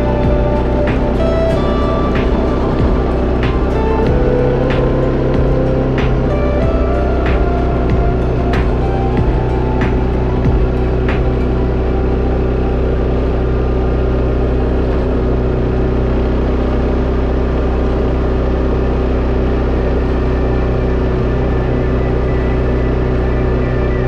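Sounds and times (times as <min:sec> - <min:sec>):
atv engine droning: 0:00.0 - 0:24.0.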